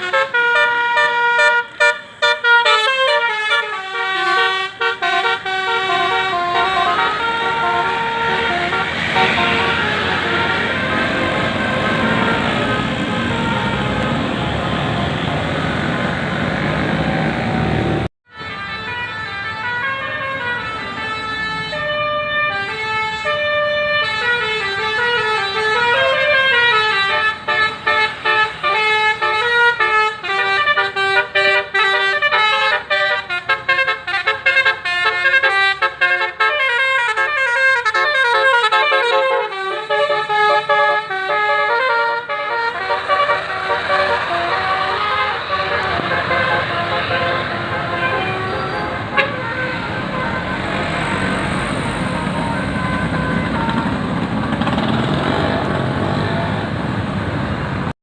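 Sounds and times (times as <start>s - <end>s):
bus musical horn tune: 0.0s - 15.4s, 18.3s - 54.9s
road and engine noise: 0.0s - 58.0s.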